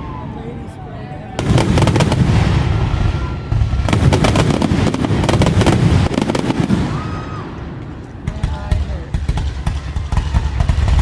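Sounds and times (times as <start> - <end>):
deep fireworks booms: 1.3 - 11.0
fireworks bursts and crackling: 1.4 - 11.0.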